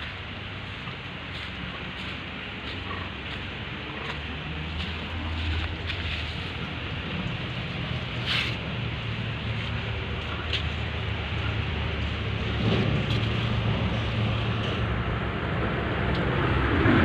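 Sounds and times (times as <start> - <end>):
truck diesel engine humming: 0.0 - 17.0.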